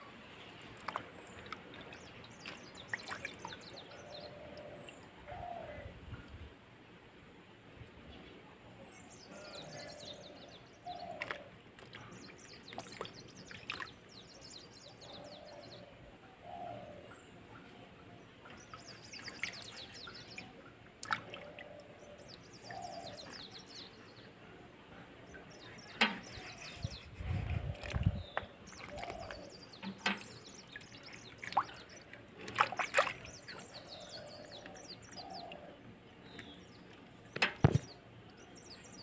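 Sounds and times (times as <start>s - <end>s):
small birds singing: 0.0s - 6.4s, 8.1s - 39.0s.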